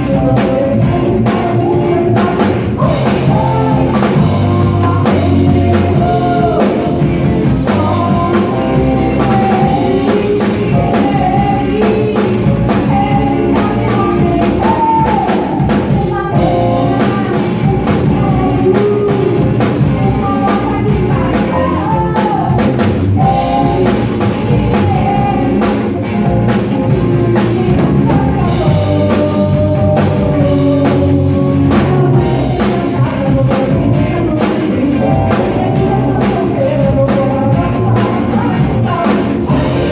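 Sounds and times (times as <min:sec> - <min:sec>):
drum kit: 0:00.0 - 0:39.9
electric guitar: 0:00.0 - 0:39.9
person singing: 0:00.0 - 0:39.9.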